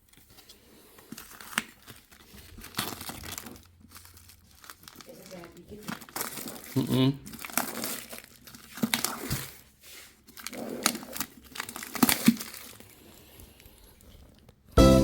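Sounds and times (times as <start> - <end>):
rustling and crinkling: 0.0 - 14.8.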